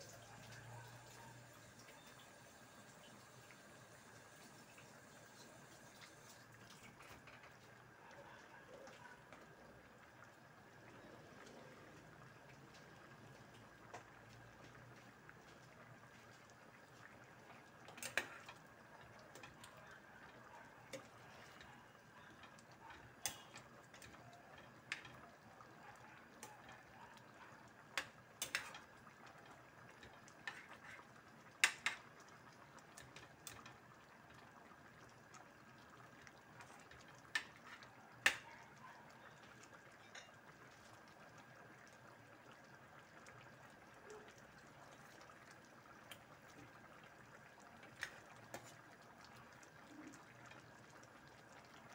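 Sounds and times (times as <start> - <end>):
stew simmering in a pan: 0.0 - 51.9.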